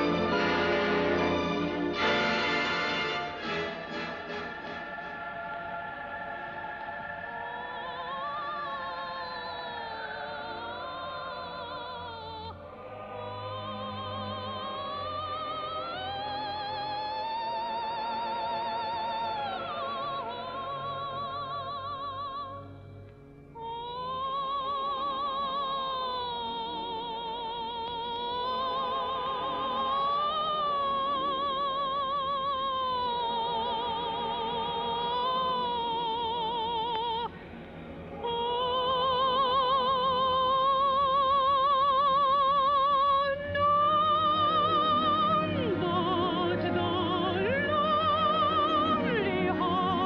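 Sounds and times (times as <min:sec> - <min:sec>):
operatic singing voice: 0:00.0 - 0:22.7, 0:23.6 - 0:50.0.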